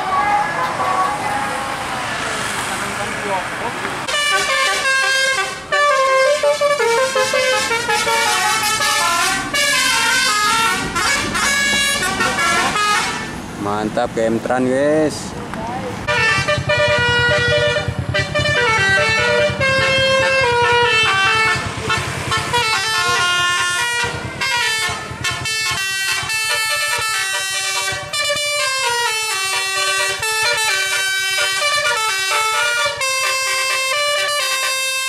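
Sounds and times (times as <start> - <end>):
low engine rumble: 0.0 - 30.6
multi-tone air horn melody: 4.1 - 13.4, 16.1 - 35.0.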